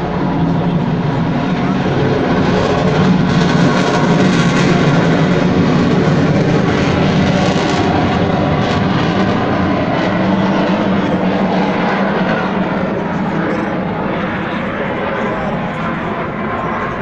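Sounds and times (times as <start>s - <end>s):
jet aircraft flying overhead: 0.0s - 17.0s.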